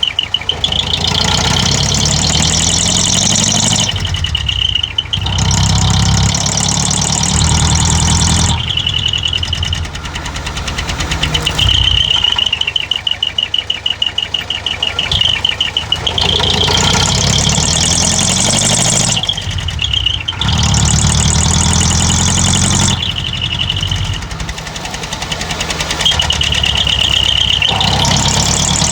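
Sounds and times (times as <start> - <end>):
diesel truck exhaust: 0.0 - 28.9.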